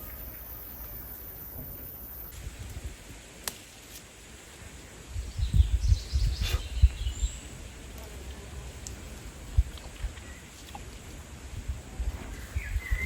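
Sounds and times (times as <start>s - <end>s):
wind gusts on microphone: 1.4s - 3.4s, 4.2s - 13.0s.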